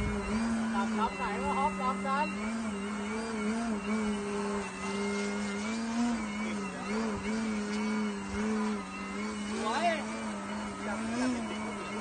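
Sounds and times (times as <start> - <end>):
model plane engine buzzing: 0.0 - 12.0.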